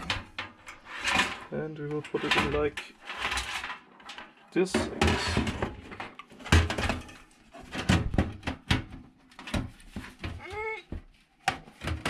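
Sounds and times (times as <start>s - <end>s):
knocks and scrapes in metal case: 0.0s - 12.0s.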